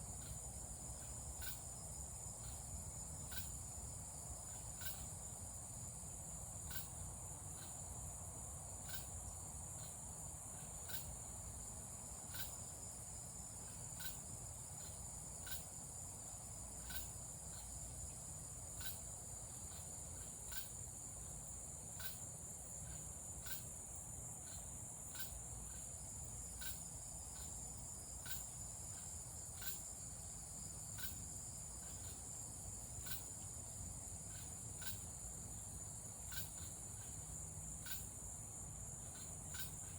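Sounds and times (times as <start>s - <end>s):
high-pitched insect trill: 0.0s - 39.9s
sharp insect chirp: 0.0s - 39.9s.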